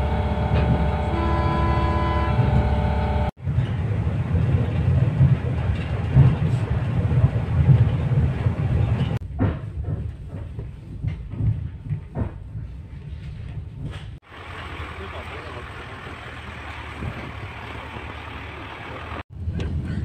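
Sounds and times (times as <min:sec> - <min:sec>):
train knocks and clacks: 0:00.0 - 0:20.0
train rumbling: 0:00.0 - 0:20.0.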